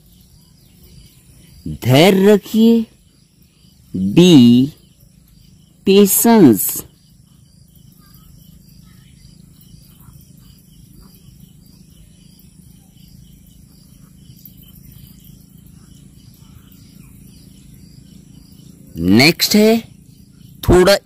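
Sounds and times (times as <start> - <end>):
crickets chirping: 0.0 - 21.0
steady low hum: 0.0 - 21.0.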